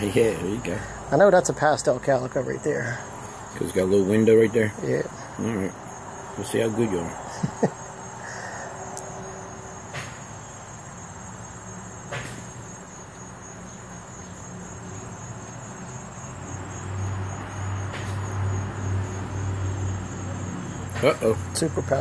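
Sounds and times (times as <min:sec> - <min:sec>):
high-pitched insect trill: 0:00.0 - 0:22.0.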